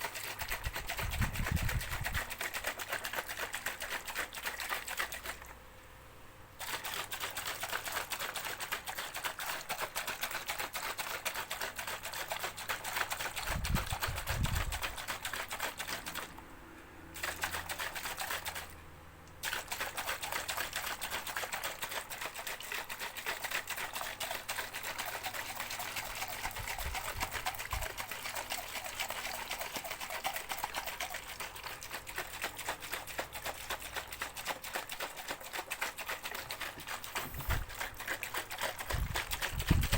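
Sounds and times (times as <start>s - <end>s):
shaker rattling: 0.0s - 5.6s, 6.6s - 16.4s, 17.2s - 18.8s, 19.4s - 39.9s.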